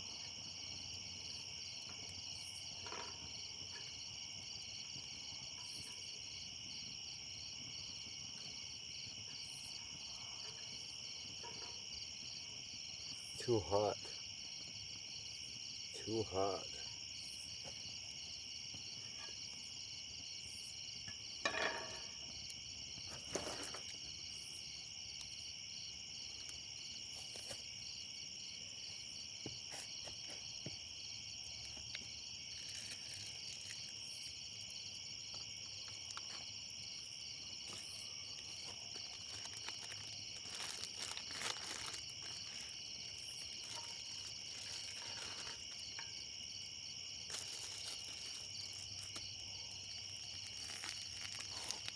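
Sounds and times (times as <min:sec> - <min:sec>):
insects calling: 0:00.0 - 0:51.9.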